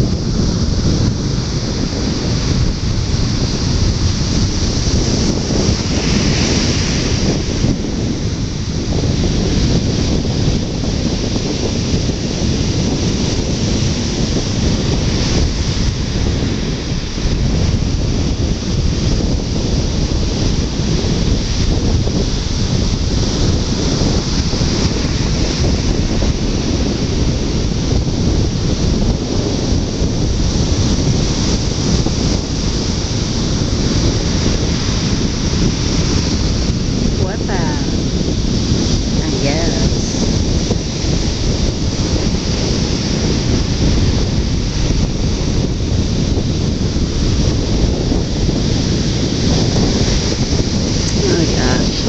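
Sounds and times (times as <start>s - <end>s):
ocean surf breaking: 0.0s - 52.0s
wind buffeting microphone: 0.0s - 52.0s.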